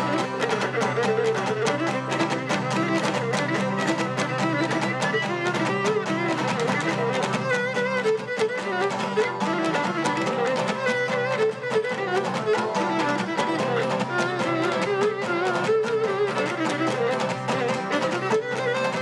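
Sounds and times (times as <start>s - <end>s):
bowed lyra melody: 0.0s - 19.0s
lute strumming a steady beat: 0.0s - 19.0s.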